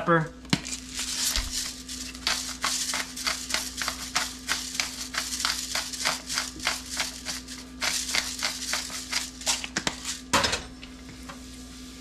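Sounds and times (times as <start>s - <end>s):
pepper grinder crunching: 0.5s - 10.3s.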